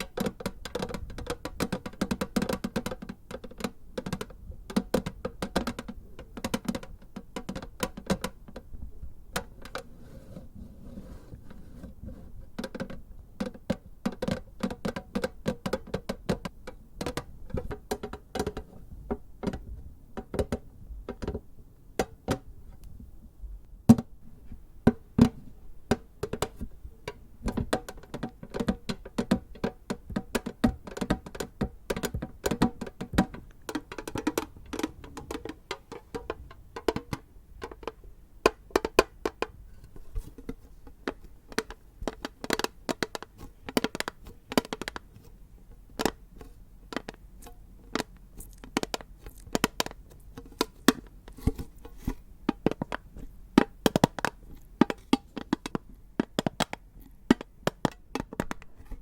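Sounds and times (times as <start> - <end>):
fingers tapping tin container: 0.0 - 9.9, 11.0 - 22.4, 24.8 - 58.8.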